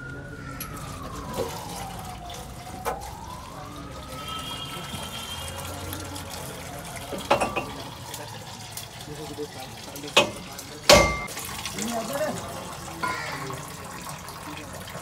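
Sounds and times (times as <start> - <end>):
oil draining into tray: 0.7 - 15.0.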